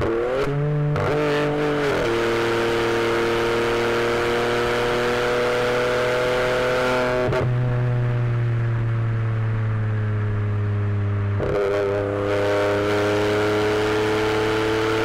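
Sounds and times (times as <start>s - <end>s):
car engine from inside cabin: 0.3s - 7.4s, 9.8s - 15.0s.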